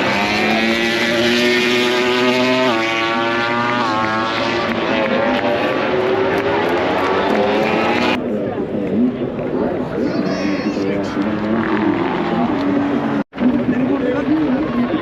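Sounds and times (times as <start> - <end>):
racing motorcycles at high revs: 0.0 - 10.0, 10.8 - 14.4.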